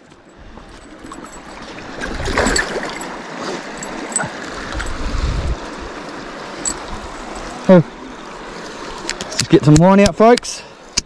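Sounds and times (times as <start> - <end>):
river water rushing: 0.0 - 9.8
water splashing: 0.7 - 9.8.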